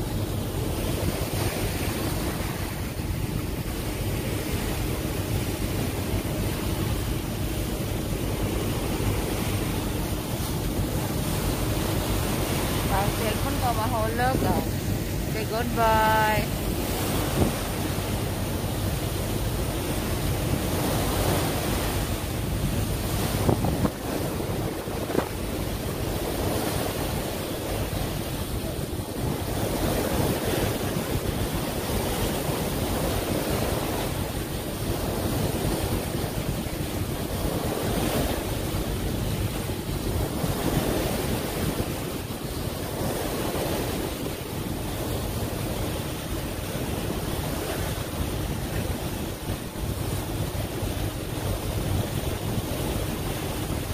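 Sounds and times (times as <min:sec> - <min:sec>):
water rushing past boat: 0:00.0 - 0:53.9
wind buffeting microphone: 0:00.0 - 0:53.9.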